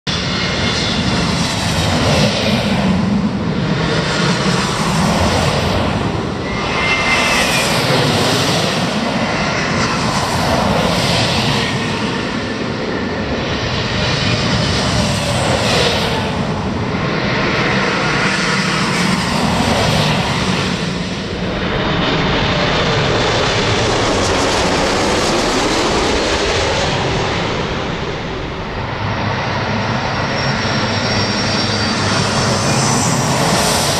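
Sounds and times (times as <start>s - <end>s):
jet airliners passing overhead: 0.1s - 33.9s.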